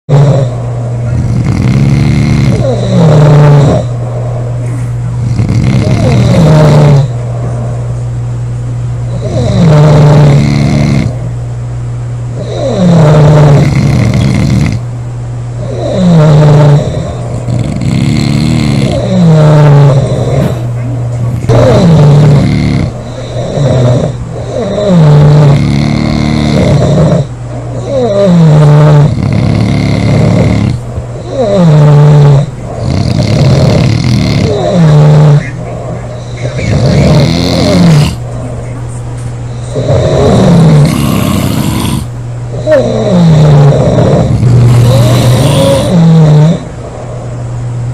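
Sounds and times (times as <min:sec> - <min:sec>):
loud buzzing snoring: 0:00.1 - 0:04.0, 0:04.6 - 0:07.2, 0:09.1 - 0:11.3, 0:12.3 - 0:14.9, 0:15.6 - 0:38.3, 0:39.5 - 0:47.1
steady low hum: 0:00.1 - 0:47.9.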